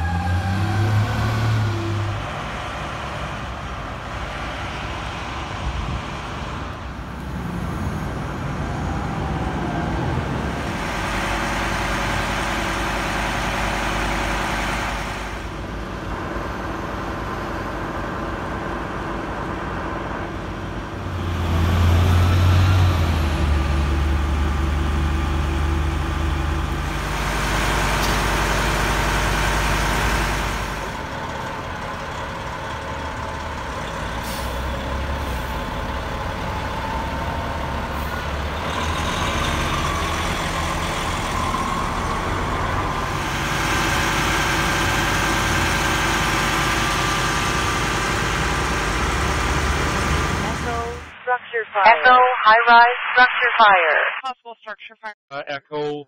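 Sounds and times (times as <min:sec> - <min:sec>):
traffic: 0:00.0 - 0:52.9
fire engine diesel drone: 0:00.0 - 0:54.2.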